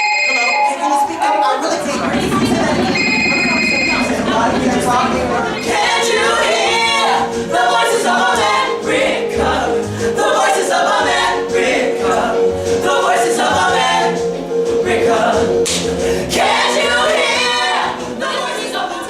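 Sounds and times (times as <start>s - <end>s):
a cappella group singing: 1.5s - 19.0s.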